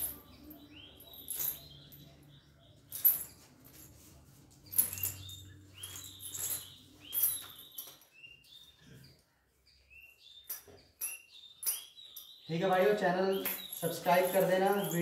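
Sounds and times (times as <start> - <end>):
sharp clinks: 0.0 - 4.0, 4.6 - 8.6, 10.2 - 15.0
small birds chirping: 0.0 - 15.0.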